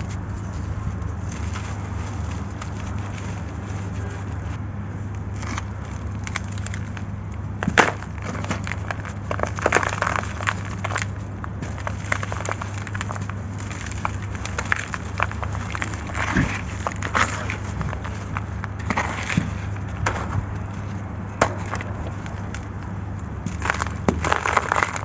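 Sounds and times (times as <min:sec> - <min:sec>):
sand cement crumbling: 0:00.0 - 0:25.0
steady low hum: 0:00.0 - 0:25.0.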